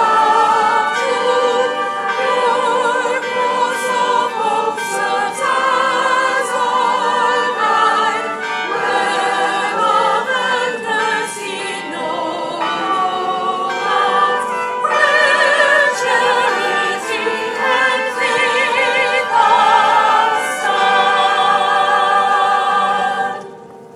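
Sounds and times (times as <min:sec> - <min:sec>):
choir singing: 0:00.0 - 0:23.9.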